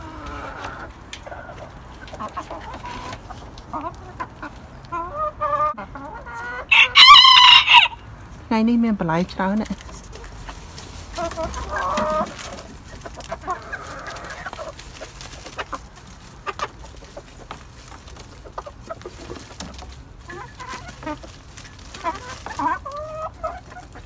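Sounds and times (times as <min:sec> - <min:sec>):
chicken calls: 0:00.0 - 0:08.2, 0:10.0 - 0:24.0
chickens clucking: 0:00.0 - 0:24.0.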